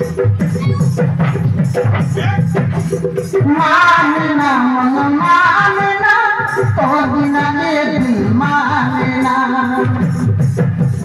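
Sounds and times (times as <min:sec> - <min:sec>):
steady drum beat: 0:00.0 - 0:11.0.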